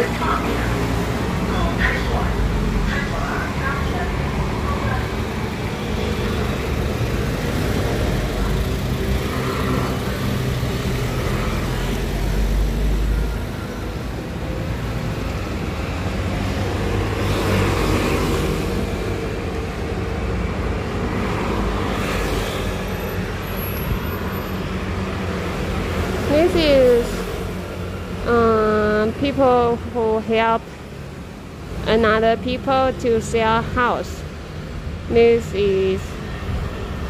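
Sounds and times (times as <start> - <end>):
street traffic engines: 0.0 - 37.0
vehicles passing by: 0.0 - 37.0.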